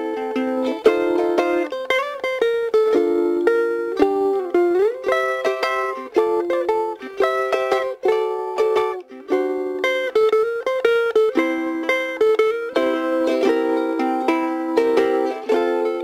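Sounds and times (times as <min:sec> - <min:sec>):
ukulele played fingerstyle: 0:00.0 - 0:16.0.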